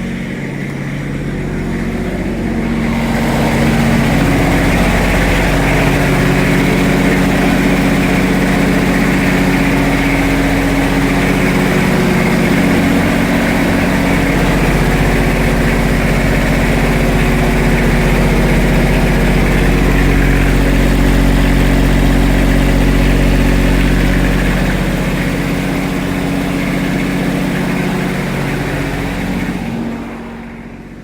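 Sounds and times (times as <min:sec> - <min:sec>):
diesel generator engine running: 0:00.0 - 0:31.0.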